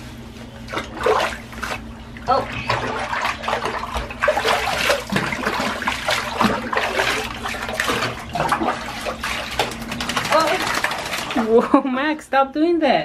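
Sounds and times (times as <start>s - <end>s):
water splashing and pouring: 0.8s - 11.5s.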